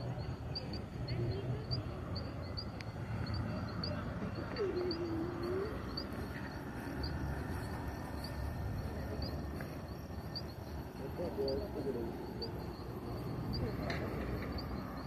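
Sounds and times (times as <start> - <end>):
small animal chirping: 0.0 - 15.0.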